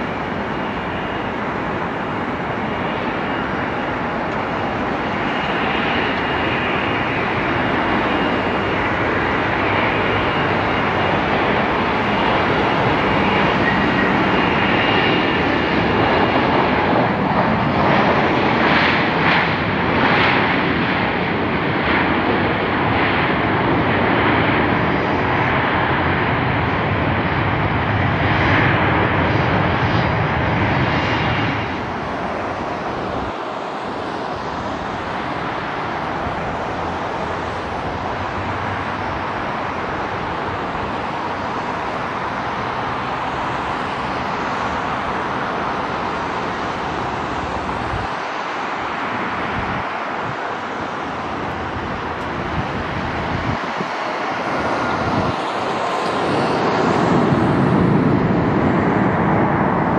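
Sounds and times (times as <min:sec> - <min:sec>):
jet engine roar: 0:00.0 - 0:59.9
quieter steady jet noise: 0:00.0 - 0:59.9.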